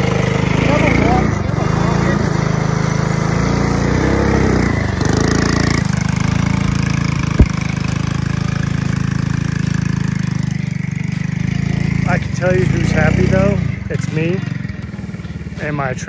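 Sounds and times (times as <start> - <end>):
small engine running under load: 0.0 - 16.0.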